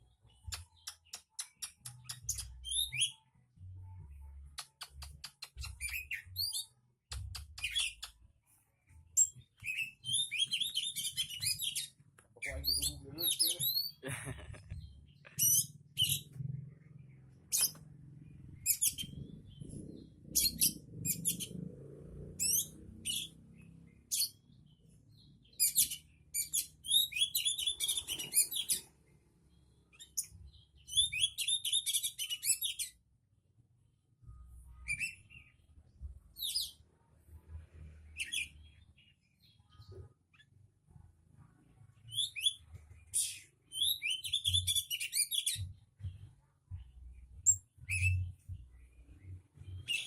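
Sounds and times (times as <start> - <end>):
songbird singing: 0.0 - 8.3, 9.0 - 33.0, 41.9 - 50.0.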